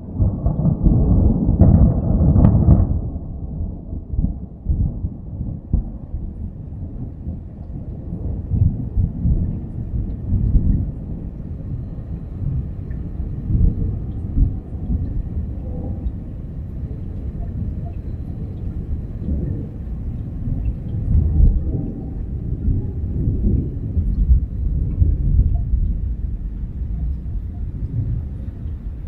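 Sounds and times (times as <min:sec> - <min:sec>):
rolling thunder rumble: 0:00.0 - 0:29.0.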